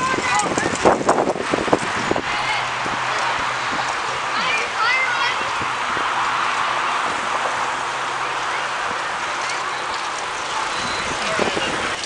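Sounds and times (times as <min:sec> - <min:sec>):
indistinct talk of riders: 0:00.0 - 0:12.0
wind and road noise: 0:00.0 - 0:12.0.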